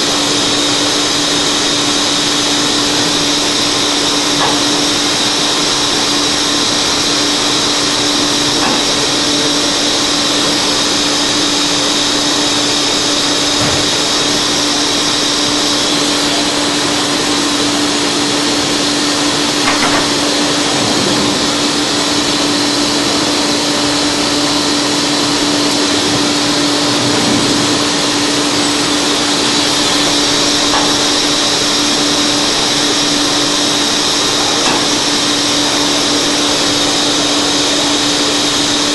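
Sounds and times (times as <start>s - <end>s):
constant hum: 0.0s - 38.9s
grinding machine whirring: 0.0s - 38.9s.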